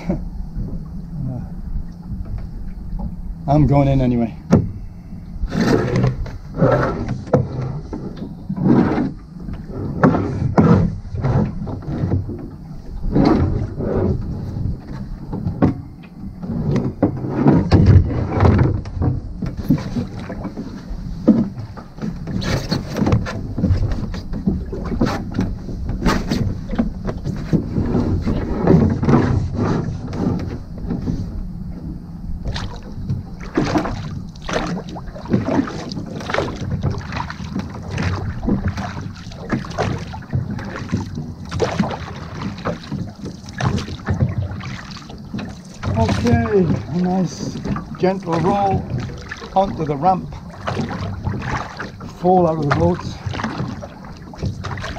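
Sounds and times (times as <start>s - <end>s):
oars knocking in rowlocks: 0.0s - 54.9s
oars splashing in water: 0.0s - 54.9s.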